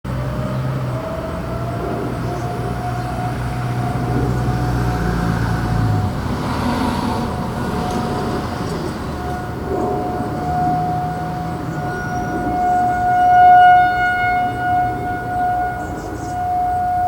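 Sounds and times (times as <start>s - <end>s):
distant warning siren: 0.1s - 17.0s
traffic rumble: 0.1s - 17.0s.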